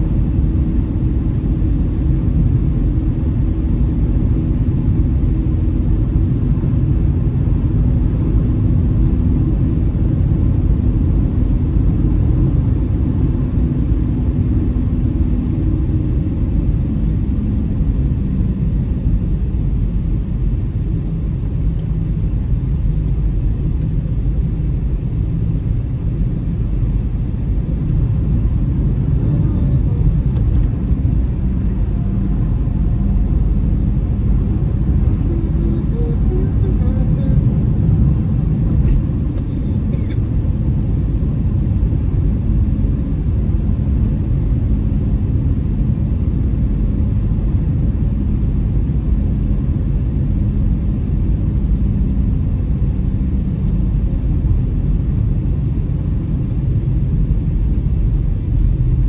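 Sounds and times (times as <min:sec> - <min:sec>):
car road and engine rumble: 0:00.0 - 0:59.0
faint hum: 0:00.0 - 0:59.0.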